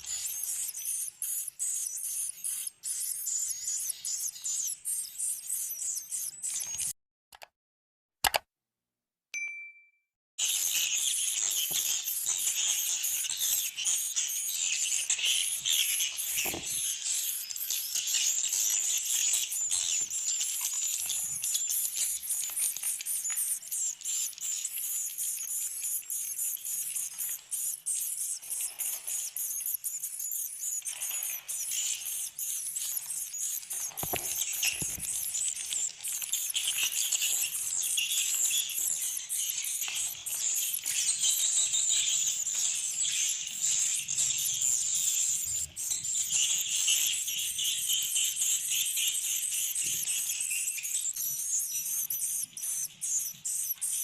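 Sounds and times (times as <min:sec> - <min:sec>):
swiftlets twittering and clicking: 0:00.0 - 0:07.0, 0:10.4 - 0:54.0.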